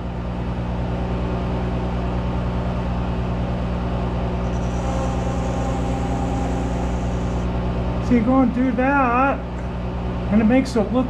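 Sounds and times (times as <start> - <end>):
lathe motor humming: 0.0 - 10.3.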